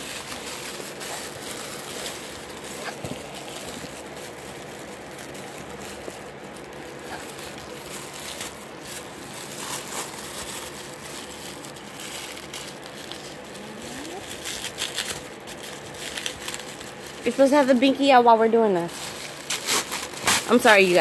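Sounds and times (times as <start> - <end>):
plastic wrapping crinkling: 0.0 - 21.0.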